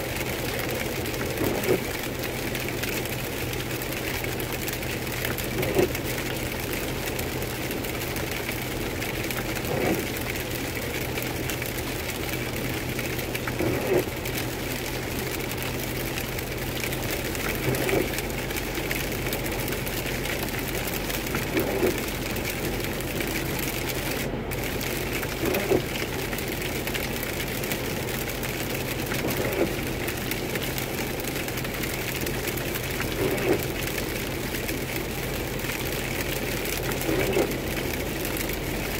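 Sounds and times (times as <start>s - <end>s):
wet road and engine noise: 0.0s - 38.9s
windshield wipers swishing: 0.2s - 38.9s.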